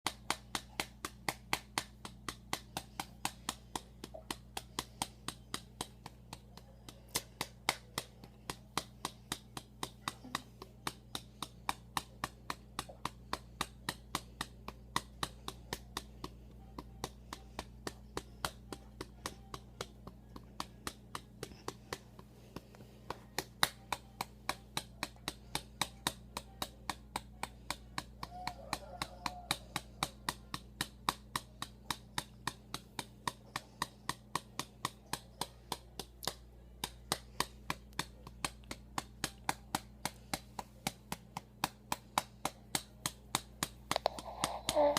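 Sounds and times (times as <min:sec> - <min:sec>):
faint steady hum: 0:00.1 - 0:44.9
hand patting doll's back: 0:00.1 - 0:44.9.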